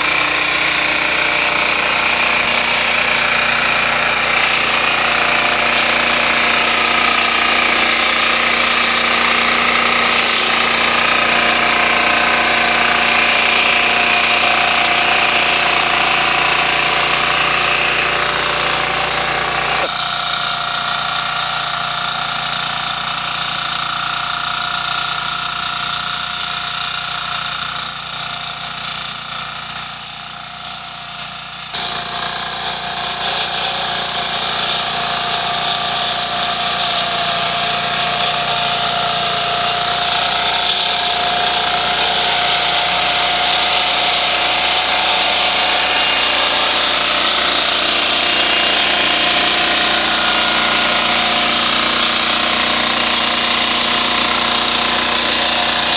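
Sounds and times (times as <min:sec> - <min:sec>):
walk-behind tractor mowing: 0:00.0 - 0:55.9.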